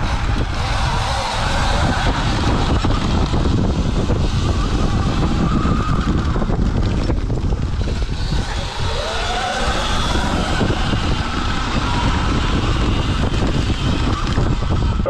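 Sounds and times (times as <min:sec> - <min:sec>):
electric motor whine: 0:00.0 - 0:15.0
wind on microphone: 0:00.0 - 0:15.0.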